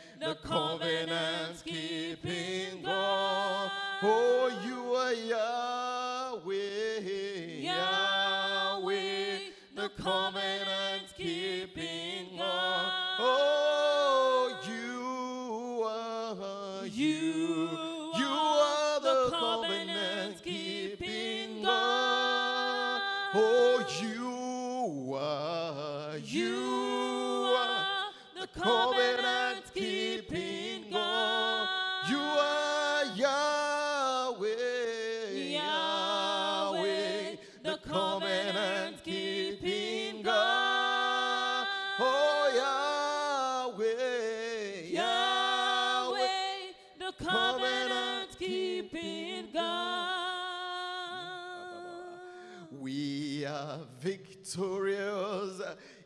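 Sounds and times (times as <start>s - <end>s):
man and woman singing gospel: 0.0s - 56.0s.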